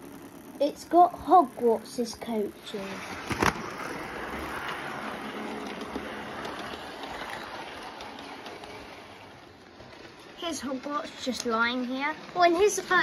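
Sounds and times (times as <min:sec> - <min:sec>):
model train whirring rattle: 0:00.0 - 0:13.0.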